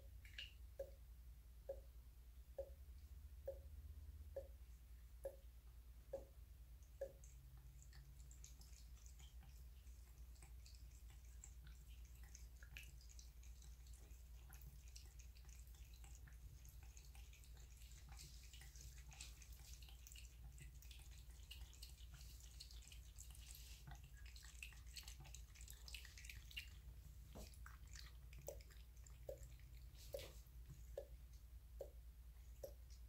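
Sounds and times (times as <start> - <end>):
cat lapping water: 6.2 - 33.0.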